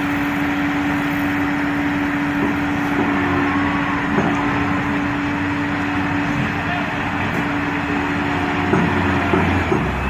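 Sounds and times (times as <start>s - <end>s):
machine engine drone: 0.0s - 10.0s.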